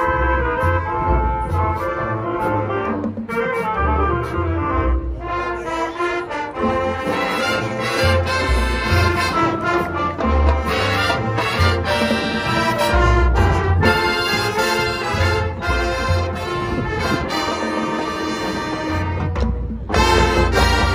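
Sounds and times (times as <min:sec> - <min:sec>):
marching band playing: 0:00.0 - 0:20.9.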